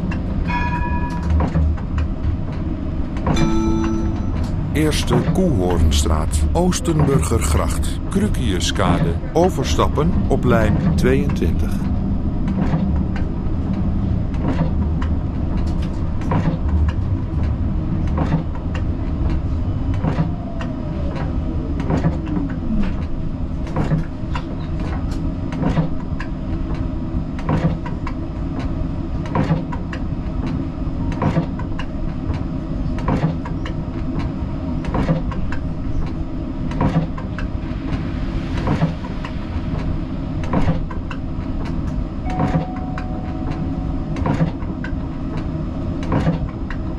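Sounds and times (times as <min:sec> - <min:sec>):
tram motors and wheels rumbling: 0:00.0 - 0:46.9.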